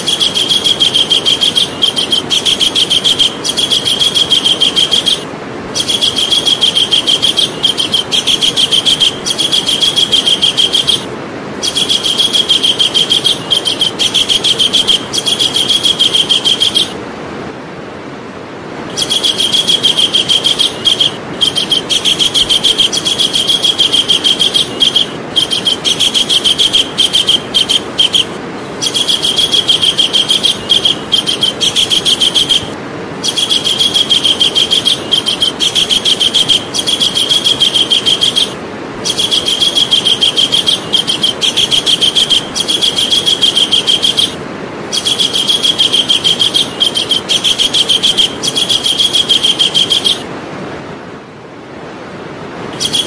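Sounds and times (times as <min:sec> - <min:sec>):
kingfisher calling: 0:00.0 - 0:17.0, 0:18.9 - 0:50.3, 0:52.8 - 0:53.0
steady hiss: 0:00.0 - 0:51.1.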